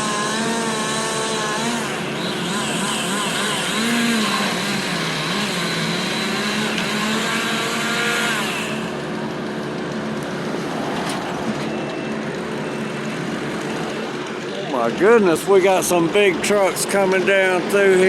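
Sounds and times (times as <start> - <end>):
heavy engines humming: 0.0 - 18.0.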